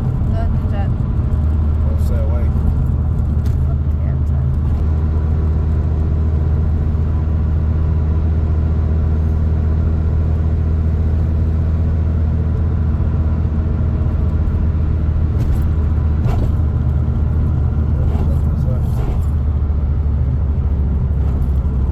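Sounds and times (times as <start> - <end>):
car engine humming: 0.0 - 21.9
road noise: 0.0 - 21.9.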